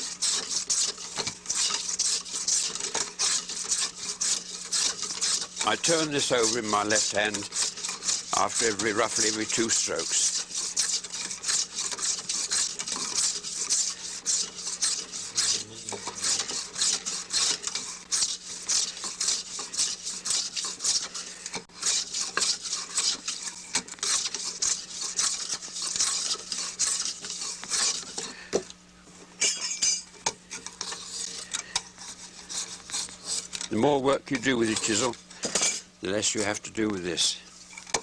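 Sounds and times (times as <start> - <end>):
chisel scraping bamboo: 0.0 - 28.4, 30.5 - 36.9.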